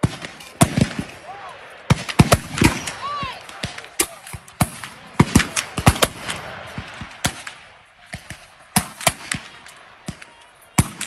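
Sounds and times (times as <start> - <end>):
muskets firing: 0.0 - 11.0.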